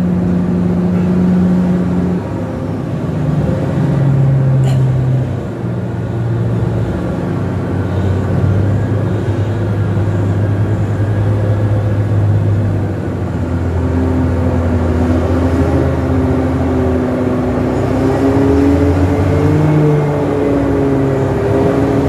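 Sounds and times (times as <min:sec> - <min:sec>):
diesel truck engines running: 0:00.0 - 0:22.0.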